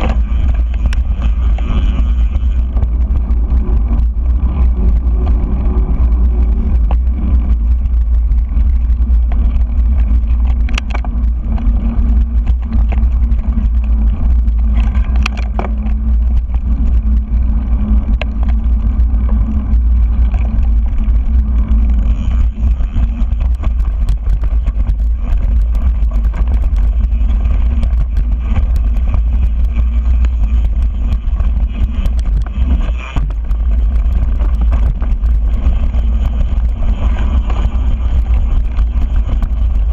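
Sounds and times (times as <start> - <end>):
bike clicks and rattles: 0.0 - 39.9
tyres rumbling on dirt trail: 0.0 - 39.9
wind buffeting microphone: 0.0 - 39.9.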